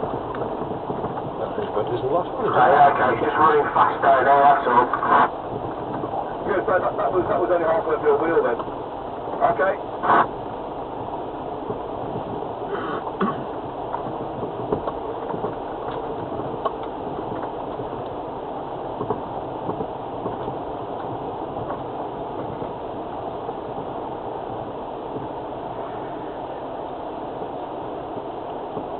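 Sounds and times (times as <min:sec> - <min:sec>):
diesel engine rumble in cabin: 0:00.0 - 0:28.9.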